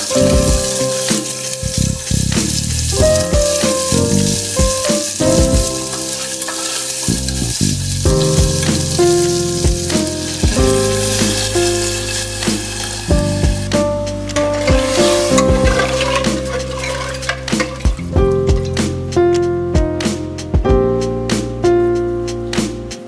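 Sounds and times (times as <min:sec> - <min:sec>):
food sizzling in hot oil: 0:00.0 - 0:13.8, 0:14.4 - 0:19.2.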